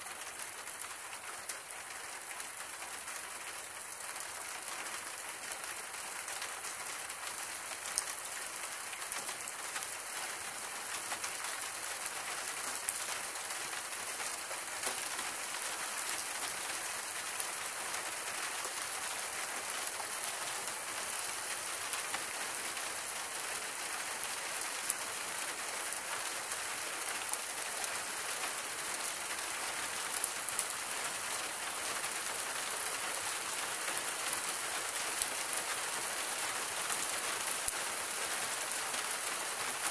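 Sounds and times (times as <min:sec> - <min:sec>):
rain on stone tiles: 0:00.0 - 0:39.9.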